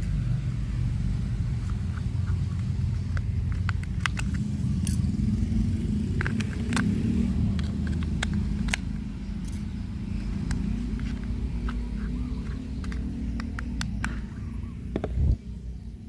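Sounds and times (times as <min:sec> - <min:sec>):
steady low rumble: 0:00.0 - 0:16.0
sharp clicks and ticks: 0:01.5 - 0:15.4.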